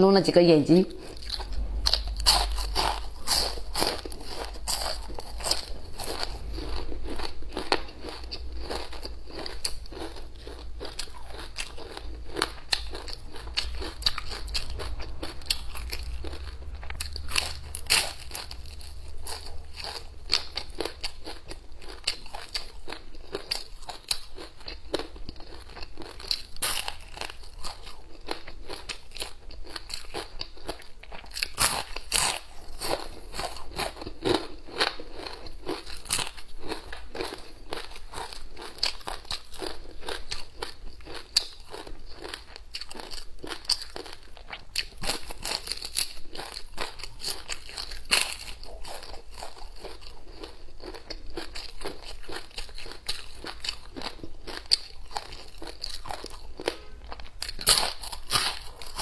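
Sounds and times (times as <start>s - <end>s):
person chewing crunchy food: 0.7s - 59.0s.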